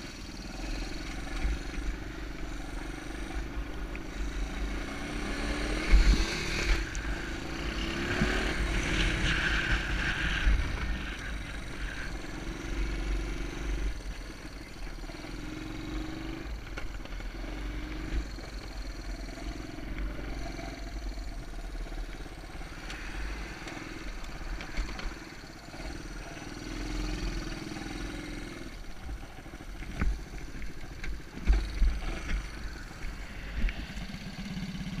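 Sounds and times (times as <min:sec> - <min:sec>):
small engine revving: 0:00.0 - 0:35.0.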